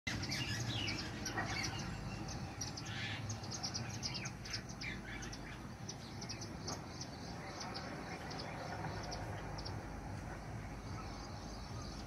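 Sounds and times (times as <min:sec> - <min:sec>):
birds chirping: 0:00.1 - 0:12.0
falling bird calls: 0:00.1 - 0:12.0.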